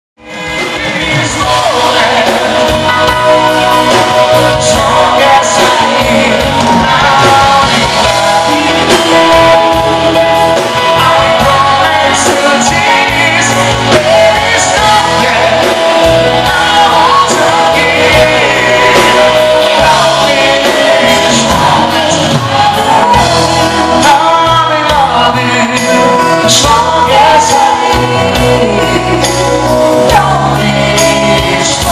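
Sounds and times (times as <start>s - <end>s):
live band with singers: 0.2s - 31.9s.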